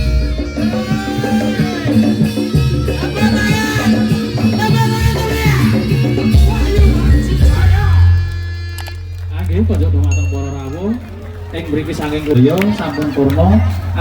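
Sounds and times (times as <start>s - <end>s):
drums keeping a steady beat: 0.0s - 14.0s.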